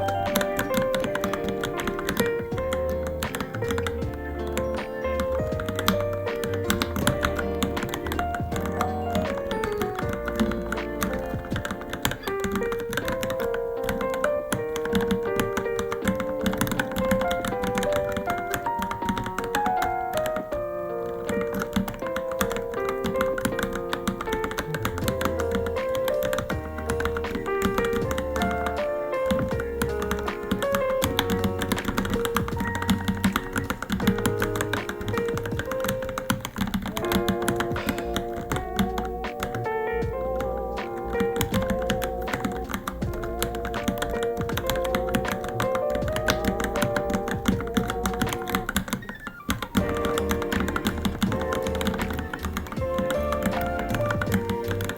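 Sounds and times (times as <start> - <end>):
background music with bass: 0.0 - 48.8, 49.8 - 54.9
mechanical keyboard typing: 0.0 - 54.9.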